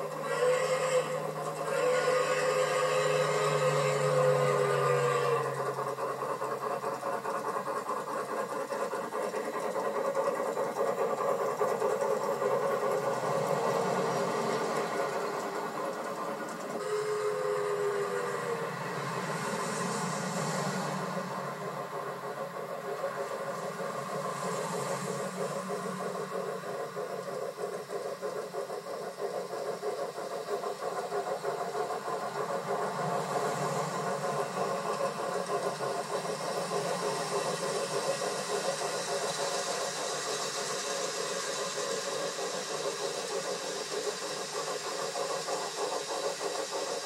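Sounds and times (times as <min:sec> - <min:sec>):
model train running on track: 0:00.0 - 0:47.0.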